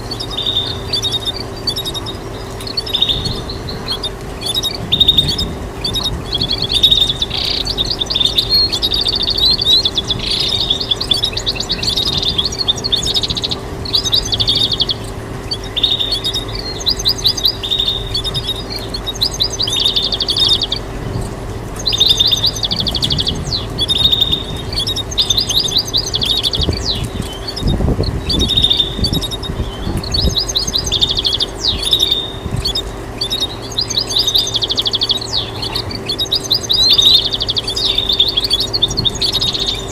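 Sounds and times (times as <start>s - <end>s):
finch twittering trills: 0.0s - 39.9s
steady hum: 0.0s - 39.9s.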